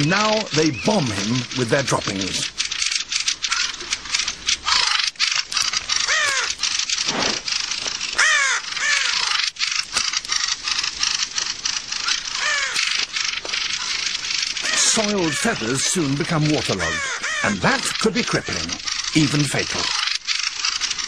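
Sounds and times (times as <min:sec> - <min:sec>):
birds chattering alarm calls: 0:00.0 - 0:21.0
raven calling: 0:00.0 - 0:21.0.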